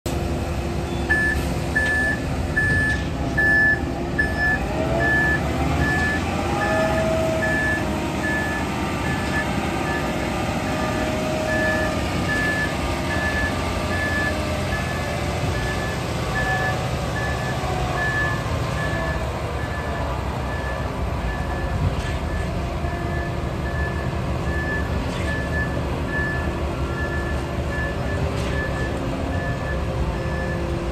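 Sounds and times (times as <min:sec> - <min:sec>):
truck engine rumbling: 0:00.1 - 0:30.9
truck reverse alarm beeping: 0:00.8 - 0:30.7.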